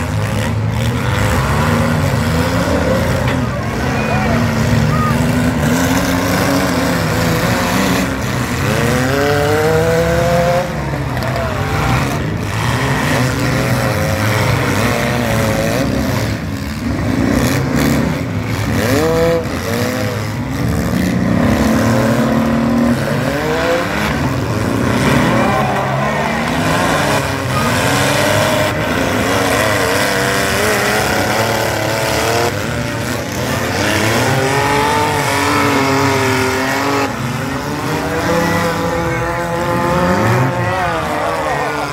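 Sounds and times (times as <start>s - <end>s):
car engines revving hard: 0.0s - 41.9s.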